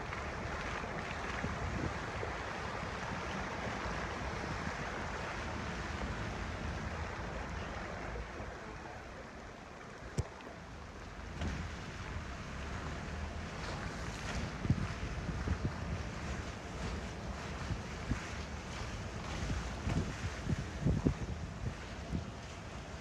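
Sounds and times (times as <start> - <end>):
wind gusting on microphone: 0.0 - 8.8, 10.9 - 23.0
choppy water rushing: 0.0 - 23.0.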